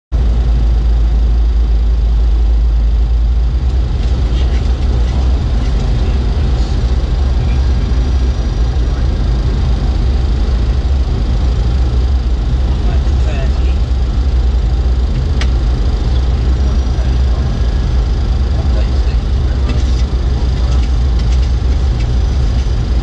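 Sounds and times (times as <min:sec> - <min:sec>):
deep cockpit rumble: 0:00.1 - 0:23.0.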